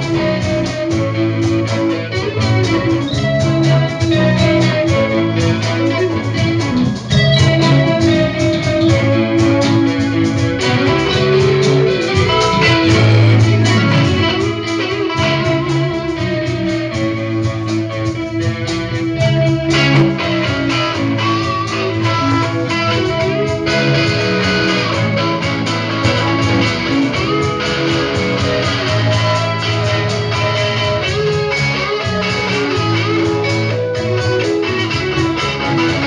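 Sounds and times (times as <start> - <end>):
electric guitars: 0.0 - 36.0
live band jamming: 0.0 - 36.0.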